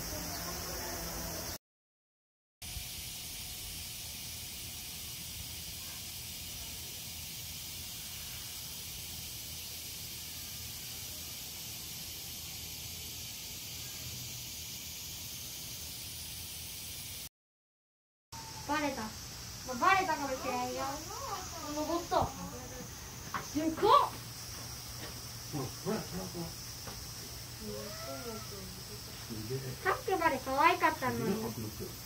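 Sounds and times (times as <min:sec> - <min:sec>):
steady hiss: 0:02.6 - 0:17.3, 0:18.4 - 0:32.0.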